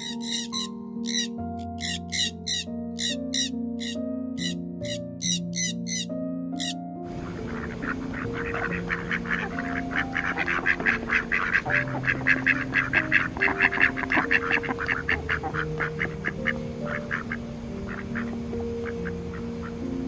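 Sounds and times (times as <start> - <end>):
ducks quacking: 0.0 - 6.0, 6.6 - 20.0
background music with low notes: 0.0 - 20.0.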